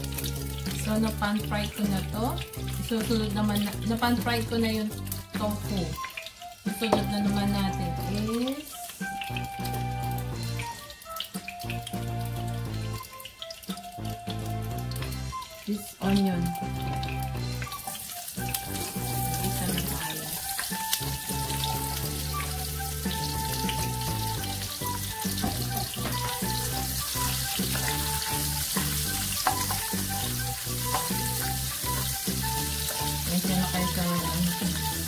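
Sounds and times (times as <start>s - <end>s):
onion sizzling in hot oil: 0.0s - 35.0s.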